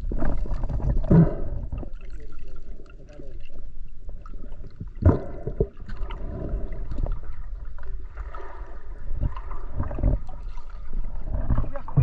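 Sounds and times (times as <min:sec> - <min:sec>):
water sloshing and gurgling: 0:00.0 - 0:12.0.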